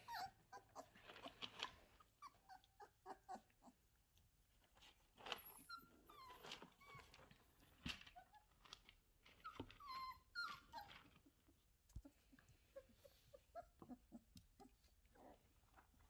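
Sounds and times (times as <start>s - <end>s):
puppies whimpering and squeaking: 0.0s - 4.0s, 5.0s - 15.8s.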